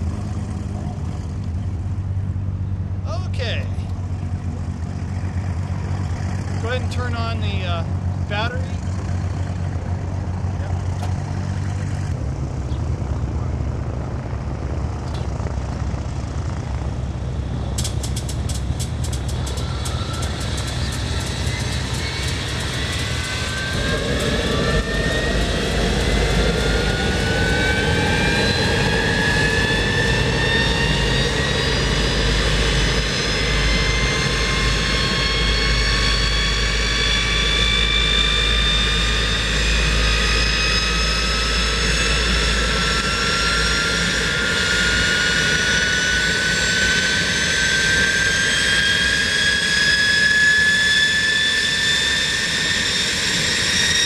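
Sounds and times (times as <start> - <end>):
low engine rumble: 0.0 - 48.5
jet engine whine rising: 0.0 - 54.0.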